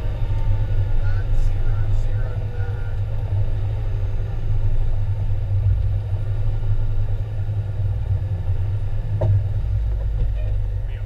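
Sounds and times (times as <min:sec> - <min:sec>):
fire engine engine rumbling: 0:00.0 - 0:11.0.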